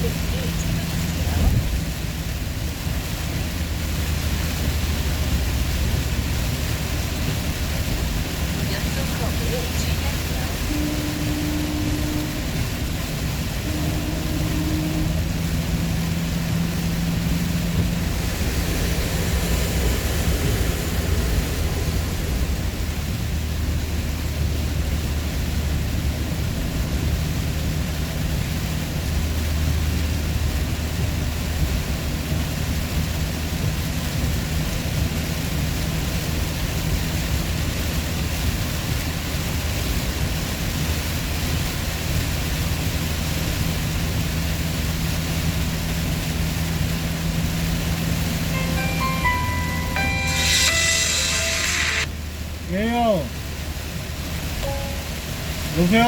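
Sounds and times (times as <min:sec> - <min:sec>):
wind noise: 0:00.0 - 0:48.6
low engine hum: 0:00.0 - 0:50.2, 0:52.0 - 0:56.0.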